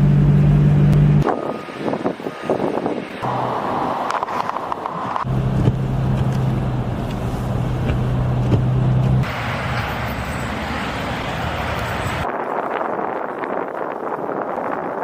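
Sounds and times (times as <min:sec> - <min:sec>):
vehicle engine rumbling: 0:00.0 - 0:14.0
steady rushing noise: 0:01.2 - 0:15.0.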